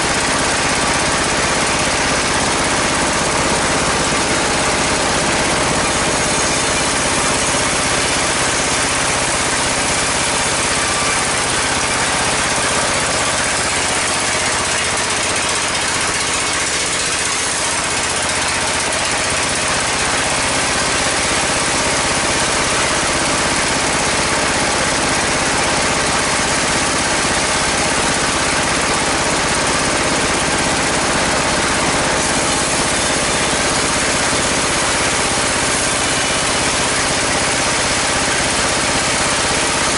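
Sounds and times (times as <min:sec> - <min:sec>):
sawmill bandsaw running: 0:00.0 - 0:39.9.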